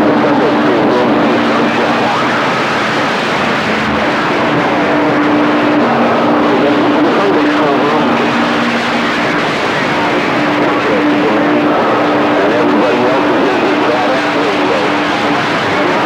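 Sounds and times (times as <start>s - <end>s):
faint garbled radio transmissions: 0.0s - 16.0s
radio static hiss: 0.0s - 16.0s.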